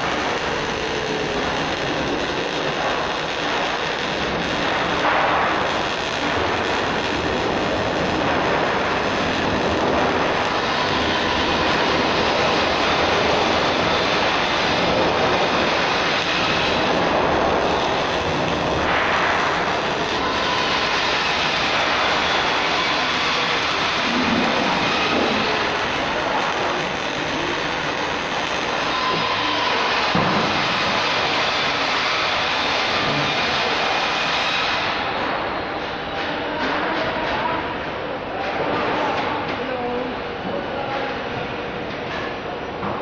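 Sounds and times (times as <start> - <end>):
sheet metal work hiss: 0.0 - 36.1.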